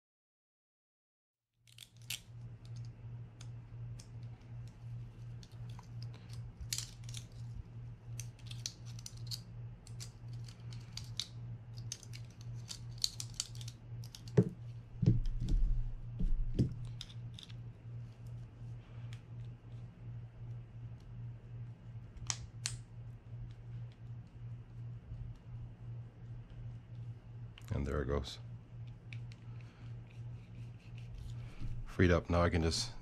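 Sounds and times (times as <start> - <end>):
steady low hum: 1.7 - 33.0.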